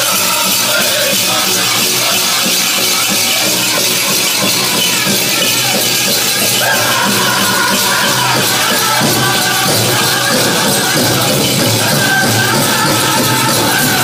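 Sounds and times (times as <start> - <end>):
bells jingling: 0.0 - 14.0
drum group singing: 0.0 - 14.0
high-pitched singing voice: 0.0 - 14.0
big drum beating: 1.1 - 14.0.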